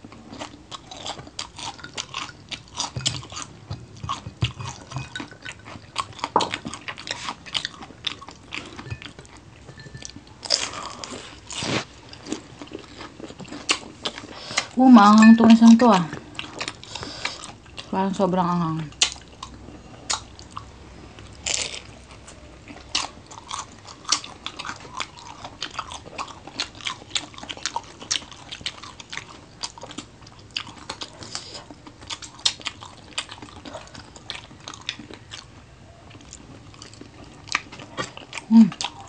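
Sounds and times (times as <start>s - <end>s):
crunchy food being chewed: 0.0s - 14.8s, 15.5s - 17.9s, 18.9s - 39.0s.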